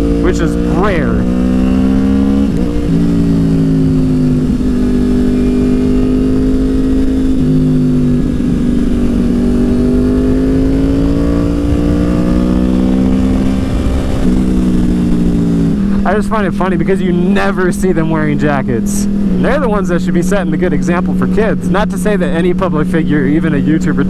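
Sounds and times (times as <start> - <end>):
low wind rumble: 0.0 - 22.8
motorcycle engine cruising: 0.0 - 24.0.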